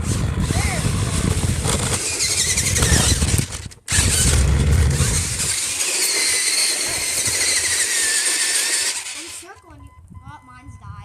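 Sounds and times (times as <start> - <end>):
toy truck electric motor whining: 0.0 - 9.7.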